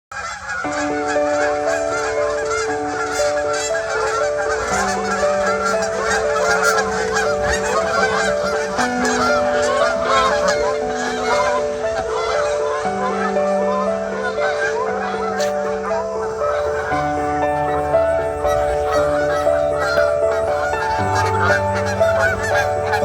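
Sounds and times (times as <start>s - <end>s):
geese honking: 0.1s - 23.0s
held musical notes: 0.2s - 23.0s.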